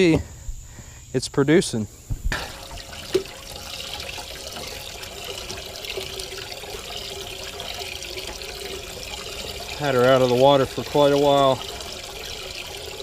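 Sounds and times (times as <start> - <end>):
water trickling and splashing: 2.3 - 13.0.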